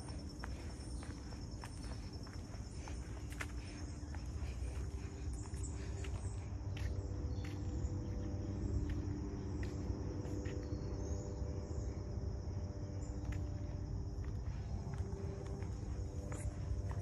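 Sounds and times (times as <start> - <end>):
faint footsteps: 0.0 - 17.0
insects chirring: 0.0 - 17.0.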